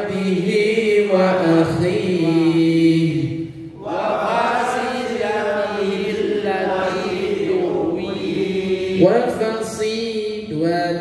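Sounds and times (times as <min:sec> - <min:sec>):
melodic recitation chant: 0:00.0 - 0:11.0.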